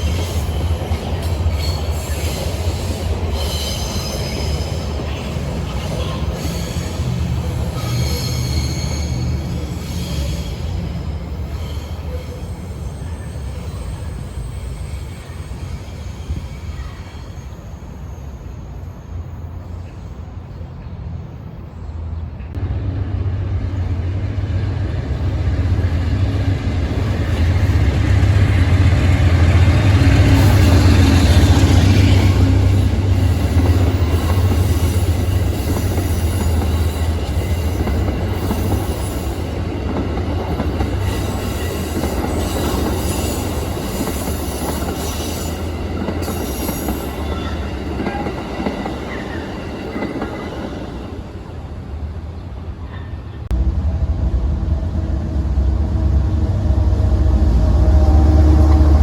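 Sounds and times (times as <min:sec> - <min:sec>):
train passing: 0:00.0 - 0:59.0
wheels on rail: 0:00.0 - 0:59.0.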